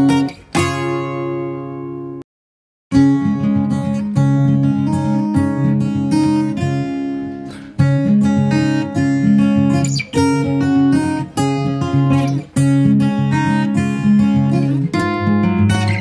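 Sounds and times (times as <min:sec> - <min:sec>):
strummed acoustic guitar chords: 0:00.0 - 0:02.2, 0:02.9 - 0:16.0.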